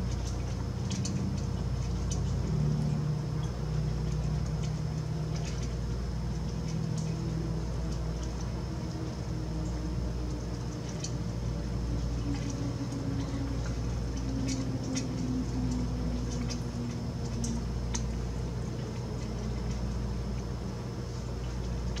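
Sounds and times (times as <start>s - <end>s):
small clicks at feeder: 0.0s - 9.0s, 9.6s - 22.0s
high whine: 0.0s - 22.0s
low hum: 0.0s - 22.0s.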